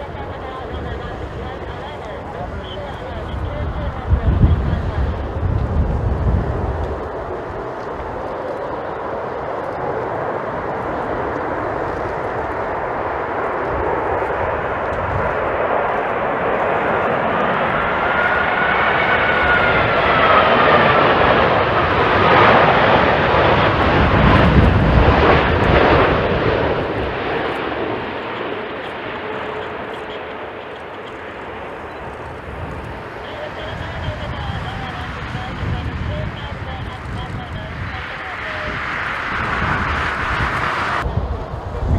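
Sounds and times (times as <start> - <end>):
jet airliner passing: 0.0 - 41.9
jet engine whine: 0.0 - 41.9.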